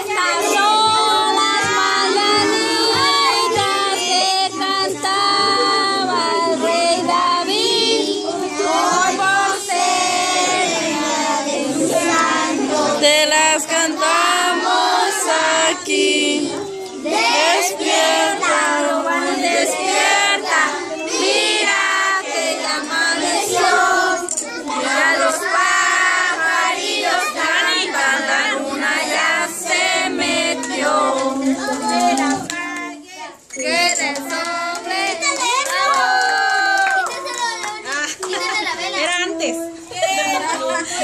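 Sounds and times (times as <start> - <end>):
group singing a celebration song: 0.0 - 41.0.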